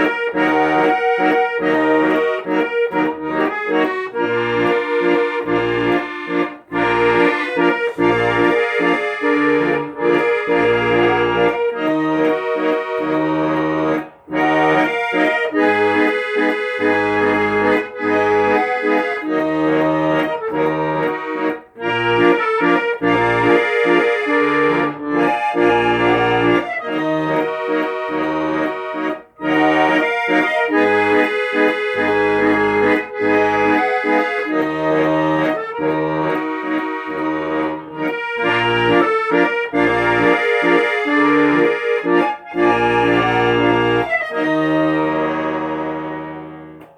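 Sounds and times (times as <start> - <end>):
accordion music: 0.0 - 46.9.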